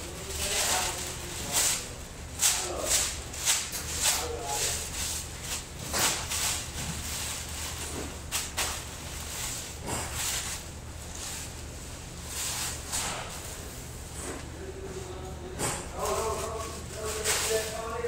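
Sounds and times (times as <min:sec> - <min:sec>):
plastic sheet crinkling and rustling: 0:00.0 - 0:13.8, 0:15.9 - 0:18.0
low hum of room machinery: 0:00.0 - 0:18.0.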